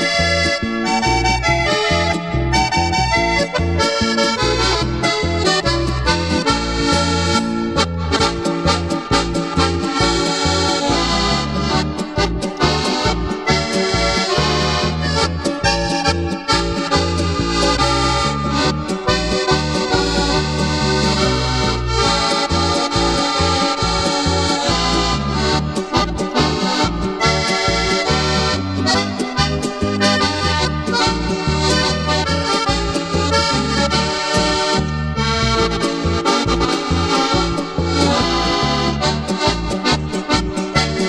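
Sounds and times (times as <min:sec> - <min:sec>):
accordion polka melody: 0:00.0 - 0:41.0
double bass and guitar: 0:00.0 - 0:41.0.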